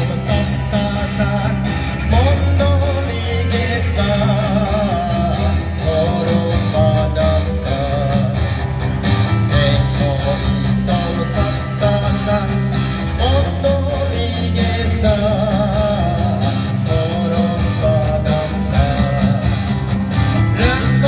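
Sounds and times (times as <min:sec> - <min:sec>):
person singing: 0:00.0 - 0:08.6, 0:09.3 - 0:21.0
live band music: 0:00.0 - 0:21.0.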